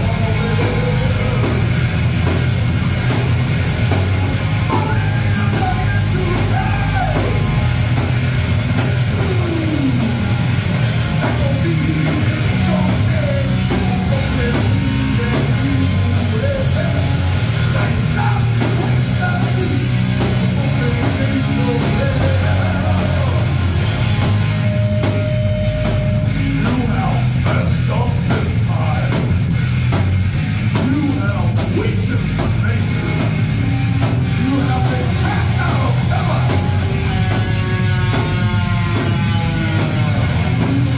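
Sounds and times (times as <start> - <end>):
distorted electric guitars: 0.0 - 40.9
drum kit: 0.0 - 40.9
sliding lead guitar line: 0.0 - 40.9.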